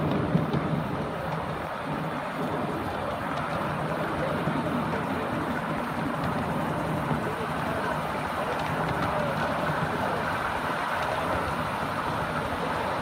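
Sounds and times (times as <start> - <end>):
miniature train wheels rumbling: 0.0 - 13.0.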